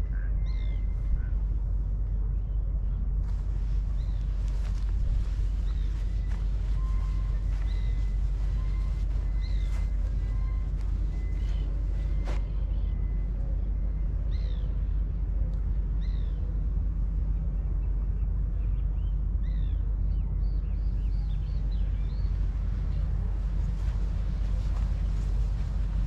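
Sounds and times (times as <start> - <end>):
birds chirping: 0.0 - 1.6, 2.4 - 26.0
steady low rumble: 0.0 - 26.0.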